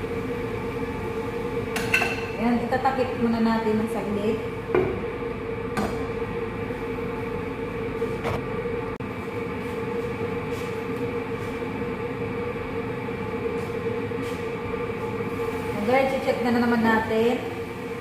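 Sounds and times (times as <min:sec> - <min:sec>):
stovetop rumbling hum: 0:00.0 - 0:18.0.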